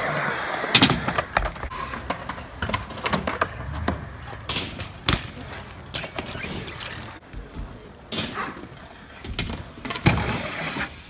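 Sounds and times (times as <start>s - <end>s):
bikes and boards clacking on ramps: 0.0s - 11.0s.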